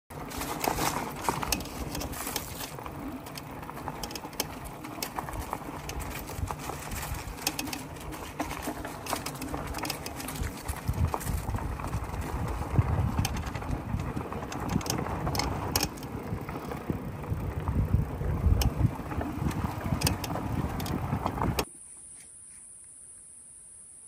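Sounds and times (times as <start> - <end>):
bike rattling over bumps: 0.1 - 21.7
bike tyres rumbling on dirt: 0.1 - 21.7.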